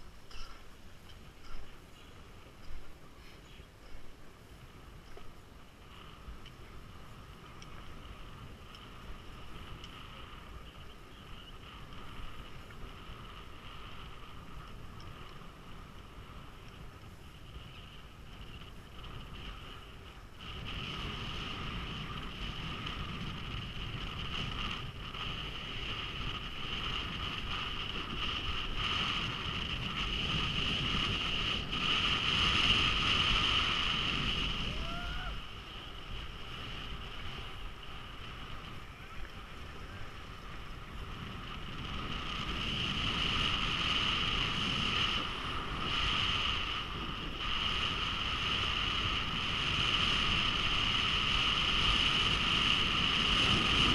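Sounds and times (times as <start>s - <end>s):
skis scraping over snow: 0.0s - 53.9s
wind rushing over microphone: 0.0s - 53.9s.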